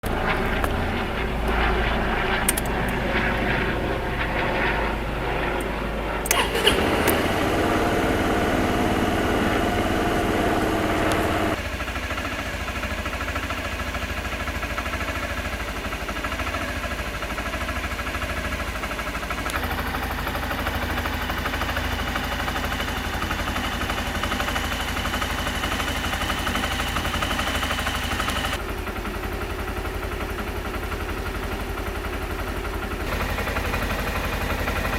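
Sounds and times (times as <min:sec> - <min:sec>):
scooter engine running: 0:06.3 - 0:34.9.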